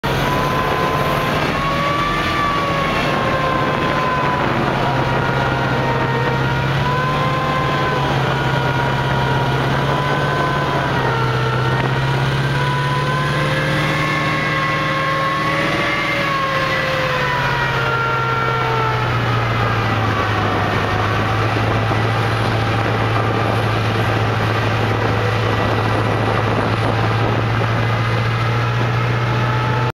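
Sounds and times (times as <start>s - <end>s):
diesel engine and tracks droning: 0.0s - 29.9s.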